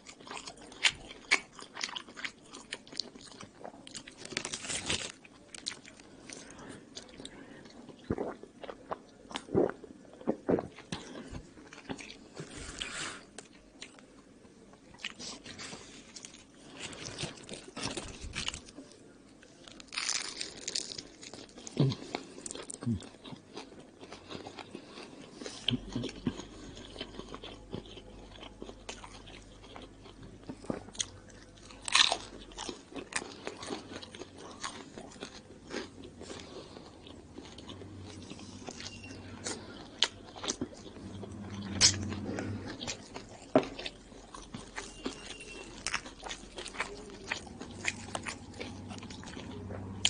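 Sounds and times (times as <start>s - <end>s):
man chewing and crunching: 0.0s - 14.0s, 14.9s - 50.0s.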